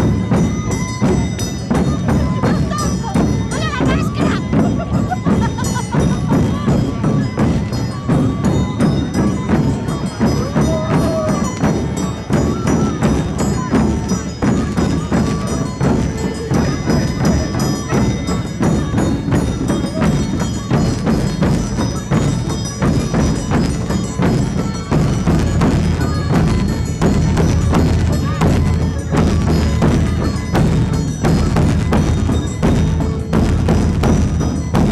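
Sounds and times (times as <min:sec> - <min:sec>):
cowbells clanging: 0:00.0 - 0:34.9
music: 0:00.0 - 0:34.9.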